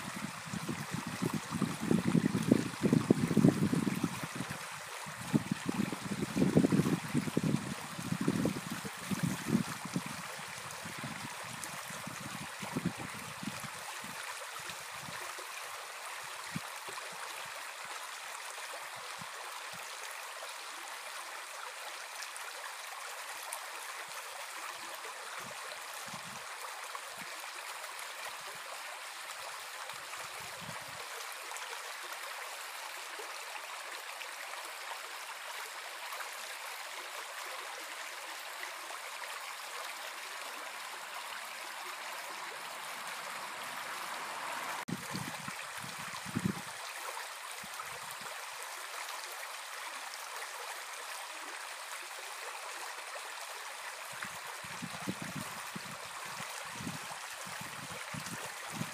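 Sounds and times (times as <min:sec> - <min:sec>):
brook babbling over stones: 0:00.0 - 0:58.9.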